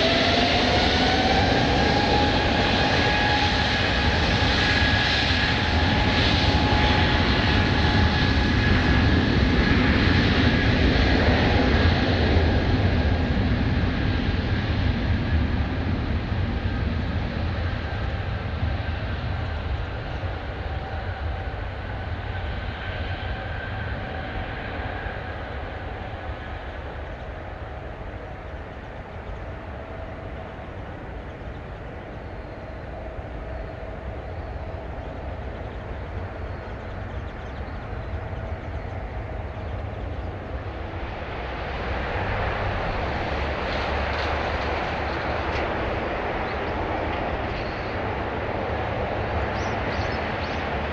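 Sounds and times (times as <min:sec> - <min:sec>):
jet engines rumbling: 0:00.0 - 0:50.9.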